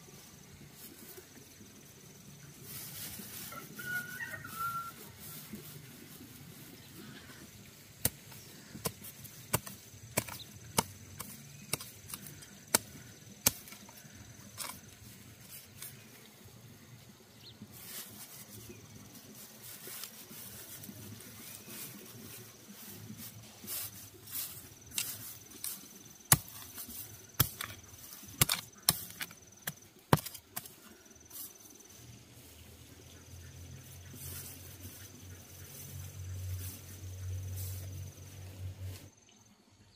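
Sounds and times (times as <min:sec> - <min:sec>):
insect whine: 0:00.0 - 0:39.9.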